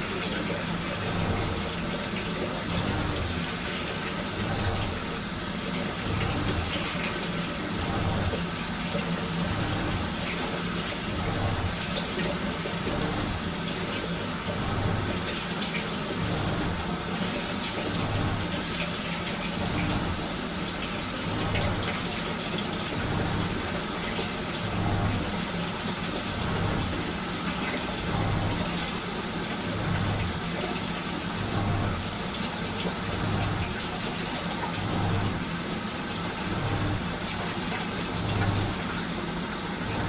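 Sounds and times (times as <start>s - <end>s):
washing machine water sloshing: 0.0s - 40.0s.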